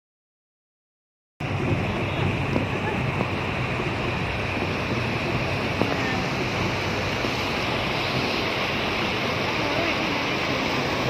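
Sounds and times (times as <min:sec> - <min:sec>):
river water rushing over weir: 0:01.4 - 0:11.0.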